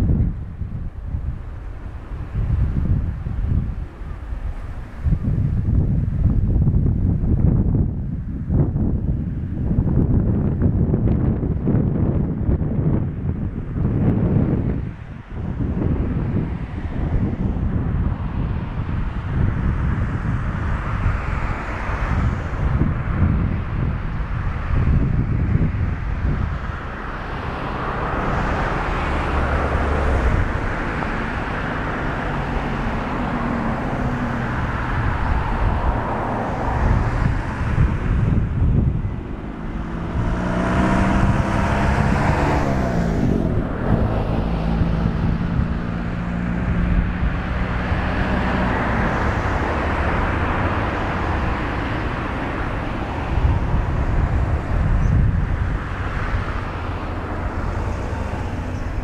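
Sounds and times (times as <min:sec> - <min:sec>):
wind gusting on microphone: 0:00.0 - 0:59.0.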